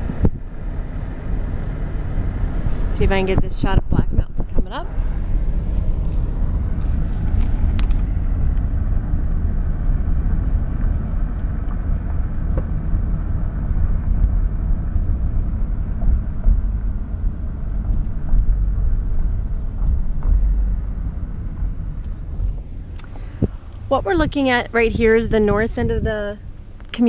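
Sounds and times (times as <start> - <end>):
road and engine noise in car: 0.0 - 27.0
light rattles: 4.9 - 27.0.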